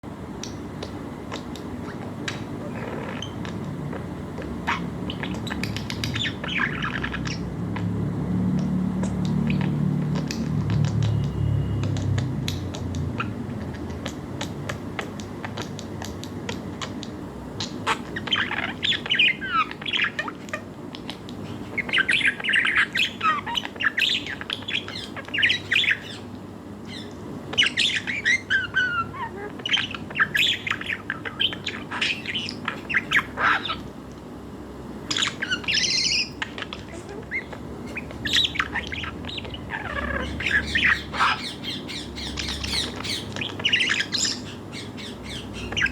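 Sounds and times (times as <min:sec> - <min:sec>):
budgies chirping and warbling: 0:00.4 - 0:34.0, 0:35.0 - 0:45.9.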